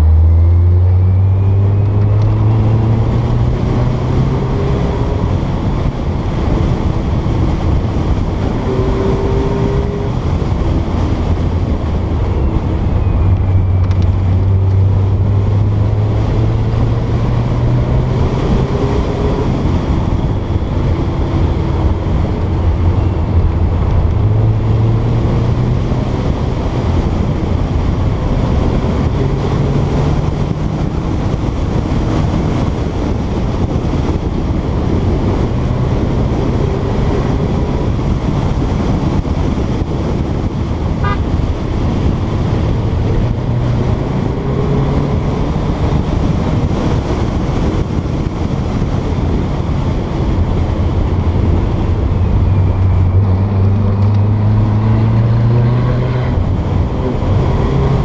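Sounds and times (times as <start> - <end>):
car engine running: 0.0 - 58.0
wind noise: 0.0 - 58.0.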